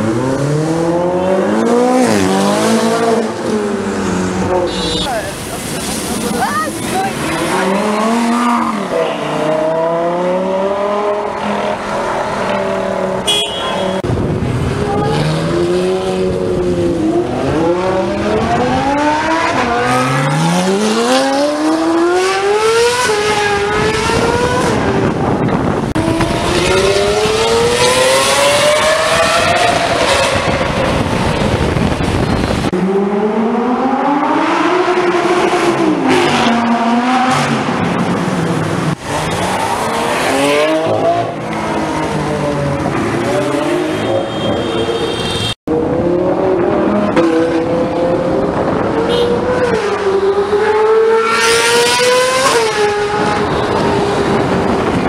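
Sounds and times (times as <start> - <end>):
sports car engines revving past: 0.0 - 4.8, 5.4 - 45.0, 45.7 - 55.0.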